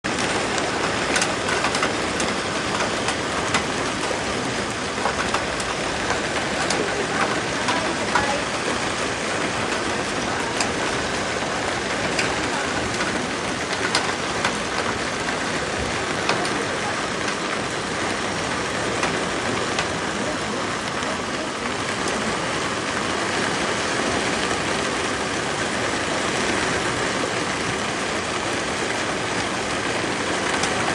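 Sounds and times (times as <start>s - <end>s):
rain falling: 0.0s - 30.9s
raindrops ticking on a surface: 0.1s - 30.9s.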